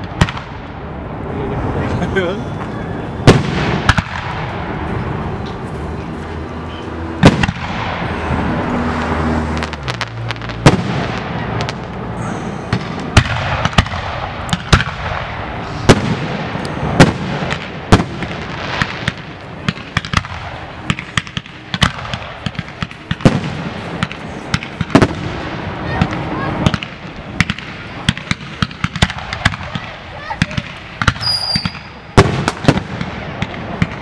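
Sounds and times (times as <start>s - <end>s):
fireworks booming: 0.0s - 5.8s, 7.0s - 34.0s
fireworks crackling: 0.0s - 34.0s.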